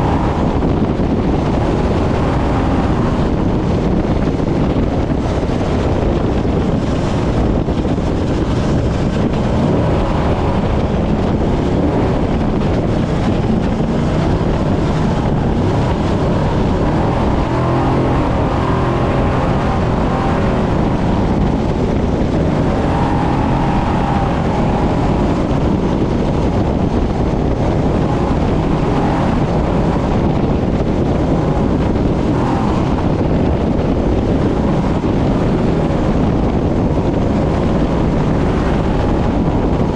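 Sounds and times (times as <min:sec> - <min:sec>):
truck engine at speed: 0:00.0 - 0:39.9
wind buffeting on microphone: 0:00.0 - 0:39.9.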